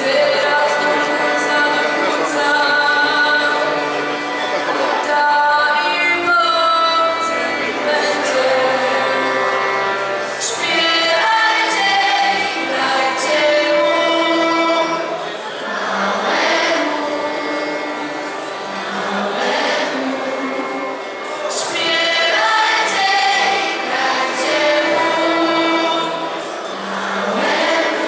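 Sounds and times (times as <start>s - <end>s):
choir singing a carol: 0.0s - 28.0s.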